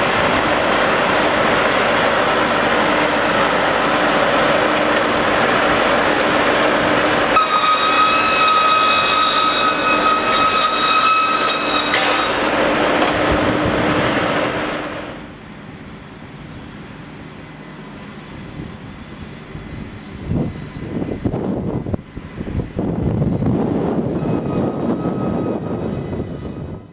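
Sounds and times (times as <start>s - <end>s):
circular saw blade whine: 0.0s - 21.0s, 21.8s - 26.9s.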